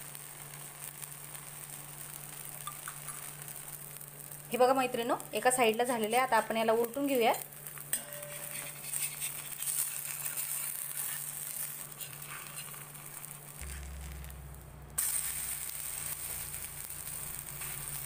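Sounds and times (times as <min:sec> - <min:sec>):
pancake sizzling in oil: 0:00.0 - 0:18.0.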